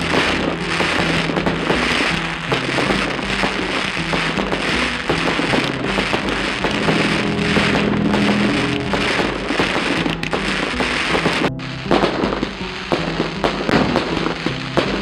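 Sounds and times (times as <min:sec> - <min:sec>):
background music with held notes: 0:00.0 - 0:15.0
fireworks crackling: 0:00.0 - 0:15.0.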